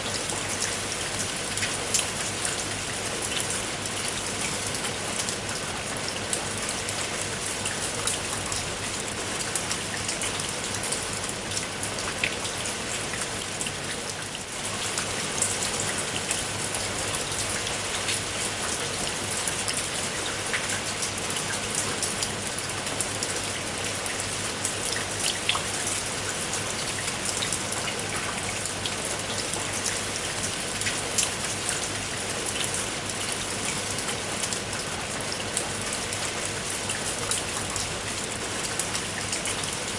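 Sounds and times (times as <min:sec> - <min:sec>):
raindrops pattering on a surface: 0:00.0 - 0:39.9
steady rain hiss: 0:00.0 - 0:39.9.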